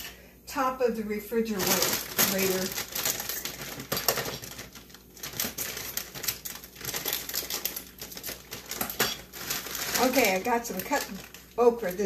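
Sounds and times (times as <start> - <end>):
plastic bag crinkling: 1.3 - 12.0.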